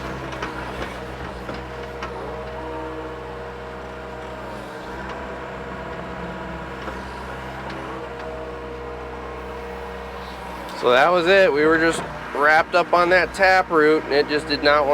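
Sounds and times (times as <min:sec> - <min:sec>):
excavator diesel engine: 0:00.0 - 0:14.9
hydraulic whine: 0:00.0 - 0:14.9.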